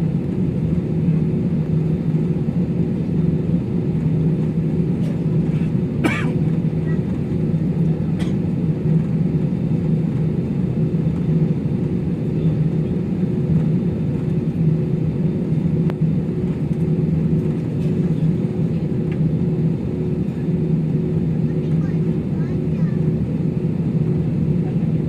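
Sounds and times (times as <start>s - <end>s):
jet engines idling: 0.0s - 25.0s.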